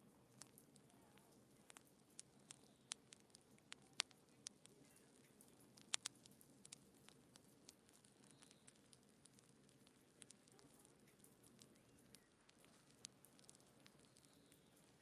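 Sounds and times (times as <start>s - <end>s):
faint low hiss: 0.0s - 15.0s
wood fire crackling: 0.0s - 15.0s.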